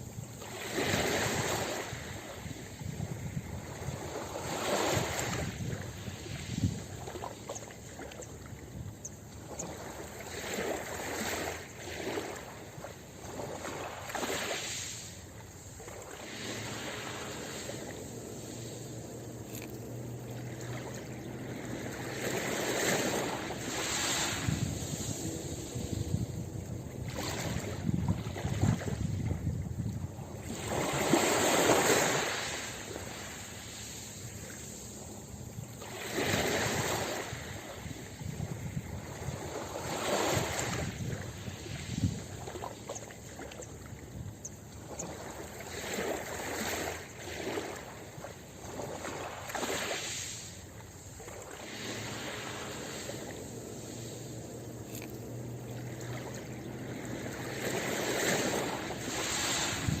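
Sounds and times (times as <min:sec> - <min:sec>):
ocean waves breaking on beach: 0:00.0 - 1:00.0.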